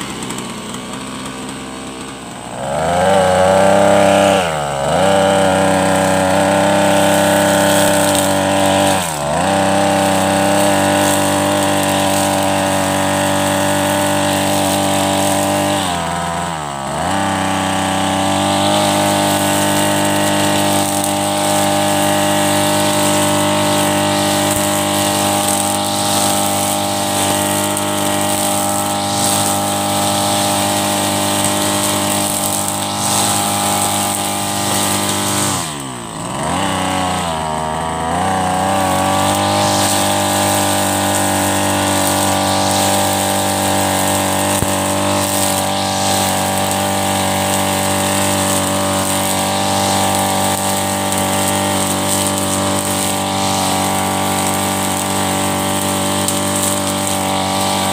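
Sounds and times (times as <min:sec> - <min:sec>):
brush cutter engine cutting grass: 0:00.0 - 0:57.9.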